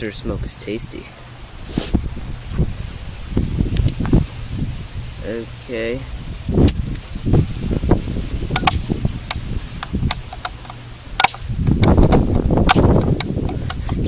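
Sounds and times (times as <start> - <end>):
rumbling rustle: 0.0 - 14.0.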